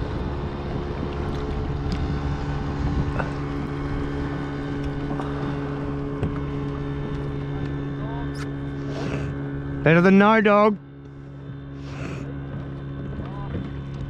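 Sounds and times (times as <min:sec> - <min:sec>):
wind rumbling on microphone: 0:00.0 - 0:09.8, 0:11.3 - 0:14.0
boat motor running: 0:00.0 - 0:14.0.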